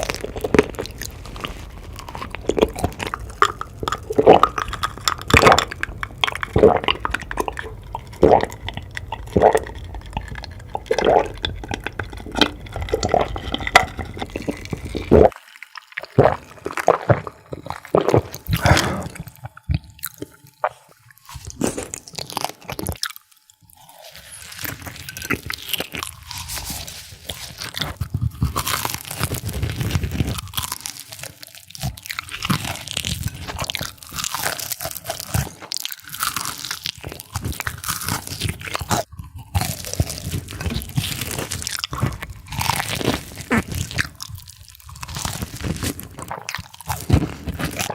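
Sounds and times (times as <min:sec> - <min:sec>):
crunchy chewing: 0:00.0 - 0:47.9.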